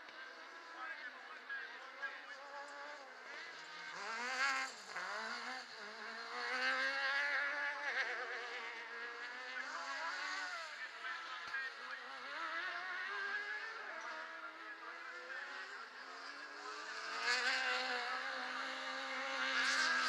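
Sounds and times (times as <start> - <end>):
buggy engine revving high: 1.9 - 20.0.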